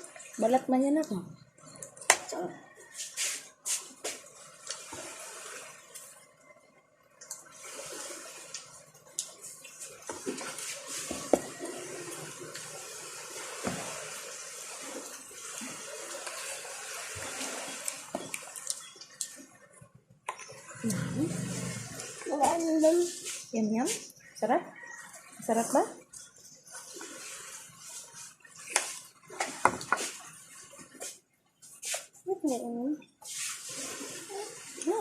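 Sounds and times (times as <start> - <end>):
water running: 0.0 - 6.5, 7.1 - 35.0.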